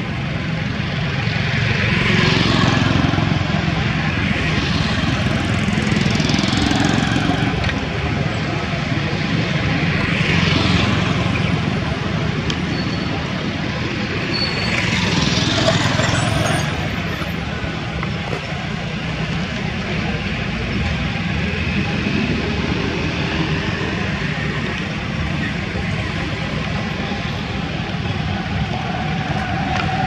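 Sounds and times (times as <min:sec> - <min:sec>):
traffic engine rumble: 0:00.0 - 0:30.0
vehicles passing by: 0:00.0 - 0:30.0.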